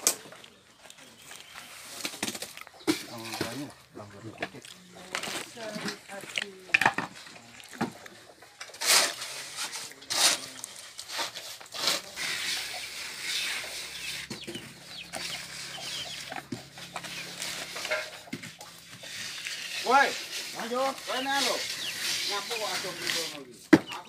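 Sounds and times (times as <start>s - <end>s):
chickens clucking: 0.1s - 8.8s, 11.4s - 24.0s.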